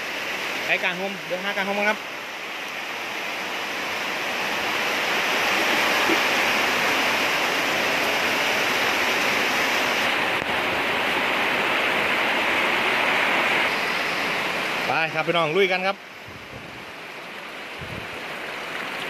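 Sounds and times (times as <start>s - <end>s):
heavy rain on metal roofing: 0.0s - 19.0s.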